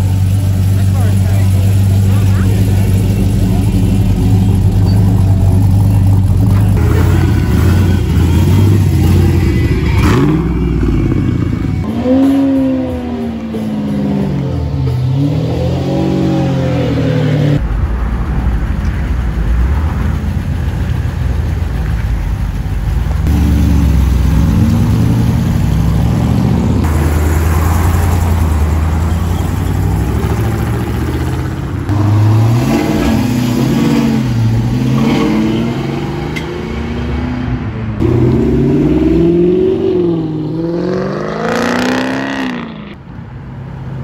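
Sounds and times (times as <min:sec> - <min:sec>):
car engines revving: 0:00.0 - 0:44.0.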